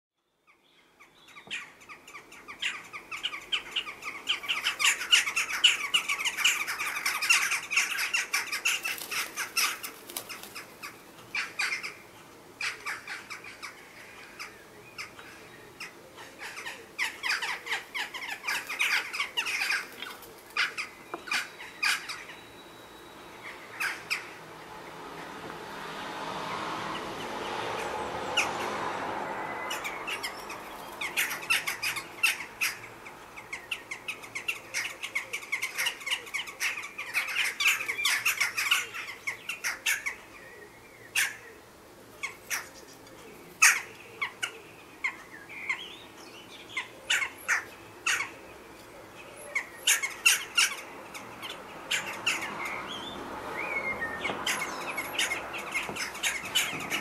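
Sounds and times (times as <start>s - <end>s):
jackdaws calling: 1.0s - 57.0s.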